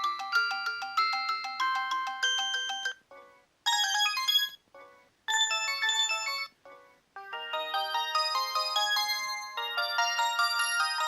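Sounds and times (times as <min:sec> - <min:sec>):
chiming ringtone notes: 0:00.0 - 0:03.0, 0:03.7 - 0:04.6, 0:05.3 - 0:06.6, 0:07.2 - 0:11.0
plinky ringtone melody: 0:00.0 - 0:11.0.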